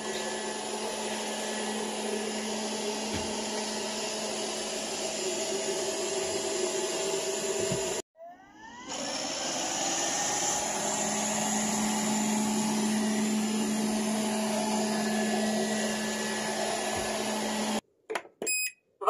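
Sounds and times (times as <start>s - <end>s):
robot vacuum cleaner whirring: 0.0s - 17.8s.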